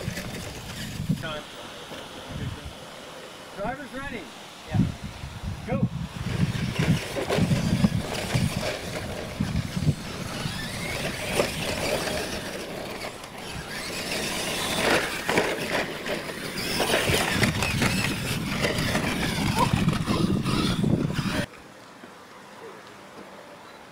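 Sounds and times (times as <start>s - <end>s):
tyres churning dirt: 0.0s - 4.3s, 5.6s - 21.6s
small motors running: 0.0s - 21.5s.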